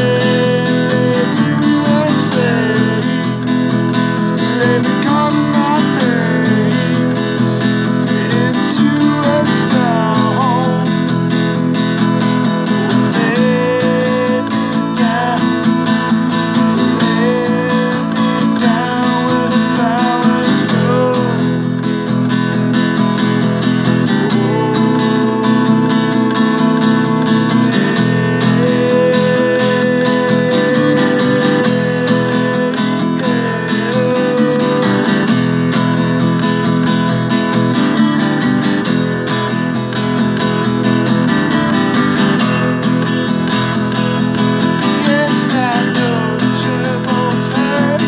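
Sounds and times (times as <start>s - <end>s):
man singing: 0.0s - 36.7s, 41.0s - 48.0s
acoustic guitar strumming: 0.0s - 48.0s.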